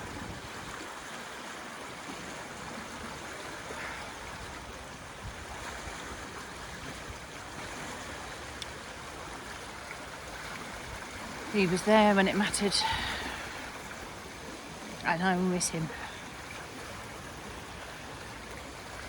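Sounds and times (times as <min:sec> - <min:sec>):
river flowing fast: 0:00.0 - 0:19.0.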